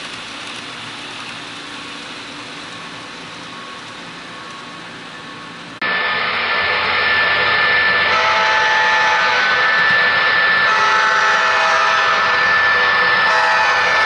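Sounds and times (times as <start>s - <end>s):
model locomotive engine sound: 0.0s - 14.0s.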